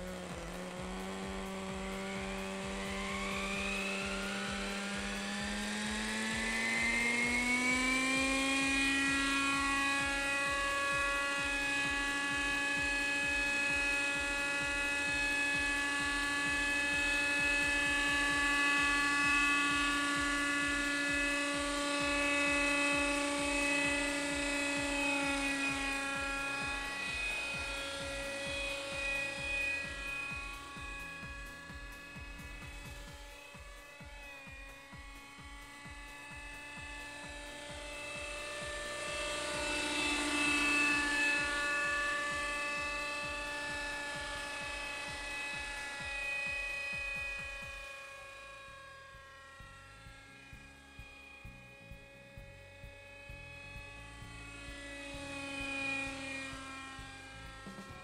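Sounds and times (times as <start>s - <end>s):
model helicopter engine whine: 0.0s - 58.0s.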